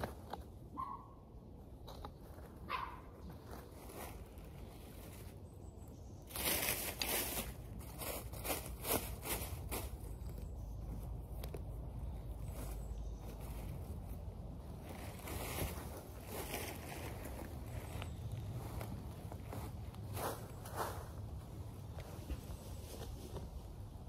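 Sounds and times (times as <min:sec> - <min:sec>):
foliage rustling: 0:01.6 - 0:24.0.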